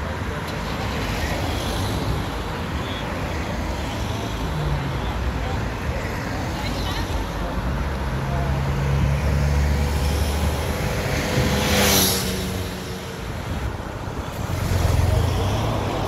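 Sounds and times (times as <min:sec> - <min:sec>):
vehicles driving past: 0:00.0 - 0:16.0.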